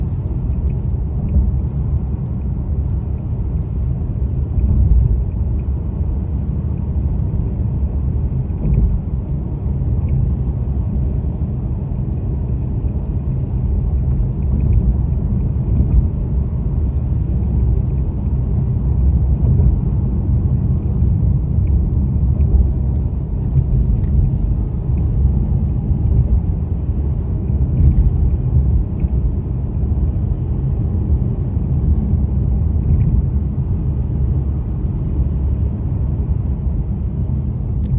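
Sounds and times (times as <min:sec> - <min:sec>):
car engine low uneven rumble: 0:00.0 - 0:37.9.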